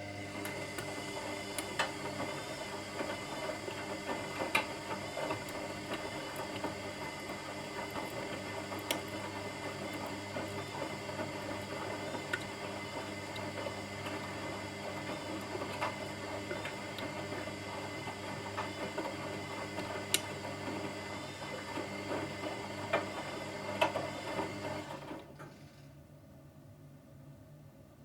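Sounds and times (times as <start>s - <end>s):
washing machine motor hum: 0.0s - 25.6s.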